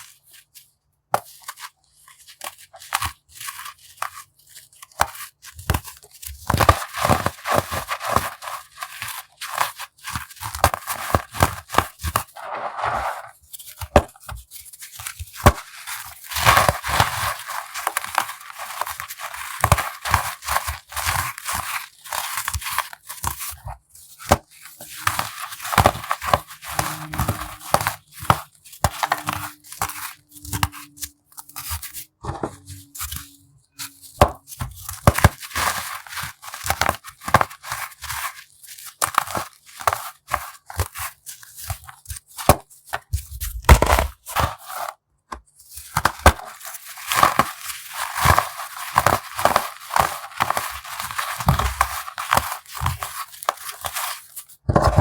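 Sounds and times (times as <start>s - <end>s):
brittle chunks crunching: 4.8s - 12.6s, 13.6s - 44.9s, 45.7s - 55.0s.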